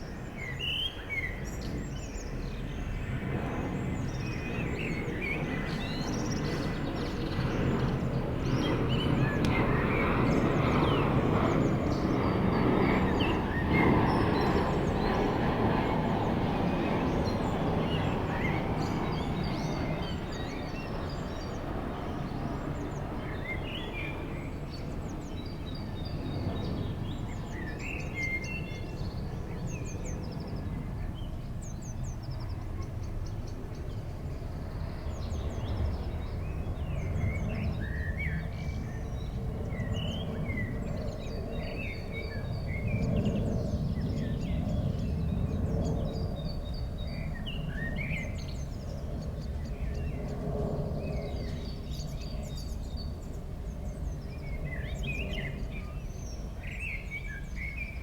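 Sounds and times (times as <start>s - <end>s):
songbirds chirping and trilling: 0.4s - 58.0s.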